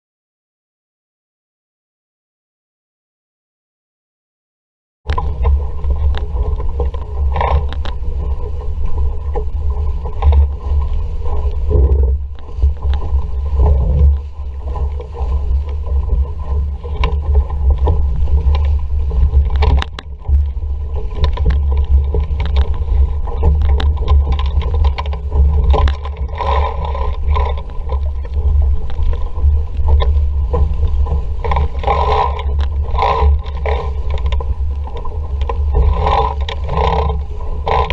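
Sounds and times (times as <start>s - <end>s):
knocks and slaps on boat: 5.1s - 37.9s
water rushing along hull: 5.1s - 37.9s
wind buffeting microphone: 5.1s - 37.9s.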